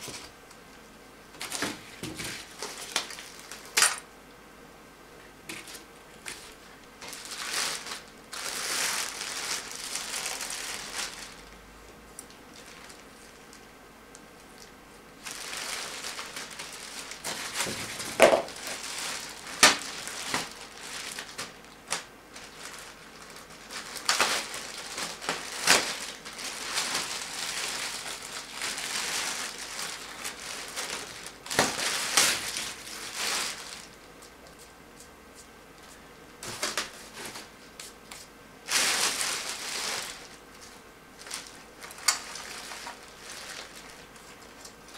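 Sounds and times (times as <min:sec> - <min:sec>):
plastic film crinkling: 0:01.4 - 0:04.1, 0:05.5 - 0:11.6, 0:12.2 - 0:34.6, 0:35.8 - 0:44.9.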